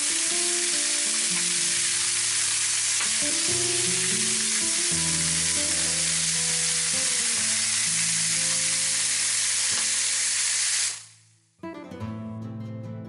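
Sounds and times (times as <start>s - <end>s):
chicken sizzling in a frying pan: 0.0s - 11.2s.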